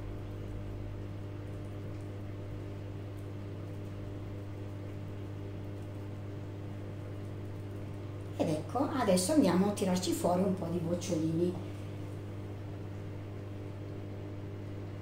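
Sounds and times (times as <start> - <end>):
low hum with faint hiss: 0.0 - 15.0.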